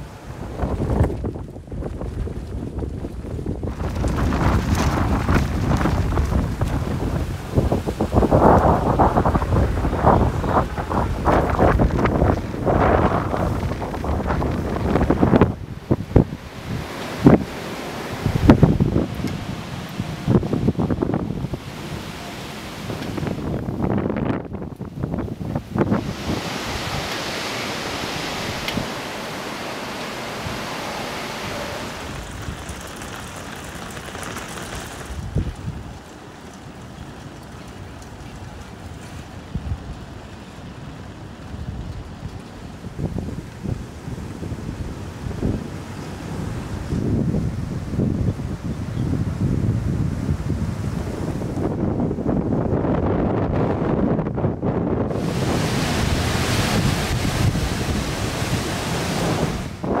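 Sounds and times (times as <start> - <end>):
strong wind rushing: 0.0 - 36.4, 37.1 - 60.0
surf breaking on rocks: 0.0 - 48.6, 49.4 - 60.0
low gusty rumbles: 0.0 - 60.0.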